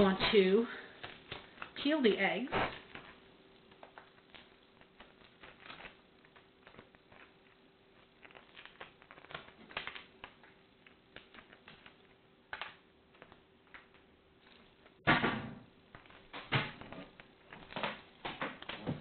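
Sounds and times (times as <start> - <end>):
faint steady hum: 0.0 - 19.0
eggshells cracking and peeling: 0.9 - 1.9, 2.6 - 15.0, 15.8 - 18.8.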